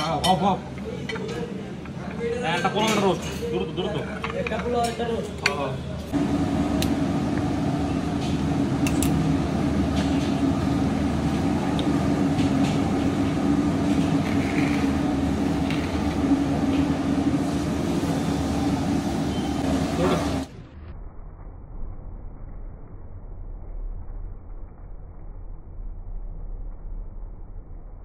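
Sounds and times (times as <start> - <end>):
machine hum: 3.7 - 28.0.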